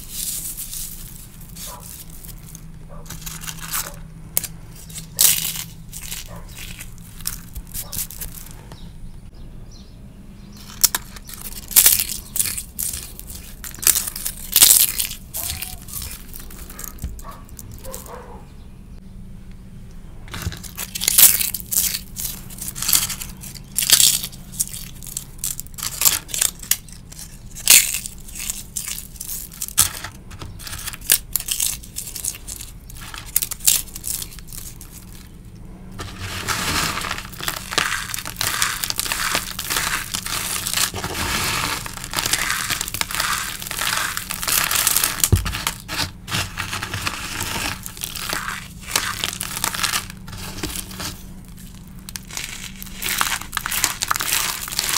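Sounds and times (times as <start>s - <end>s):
chalk crunching and crumbling: 0.0s - 8.8s, 10.6s - 18.2s, 20.3s - 35.4s, 36.0s - 54.9s.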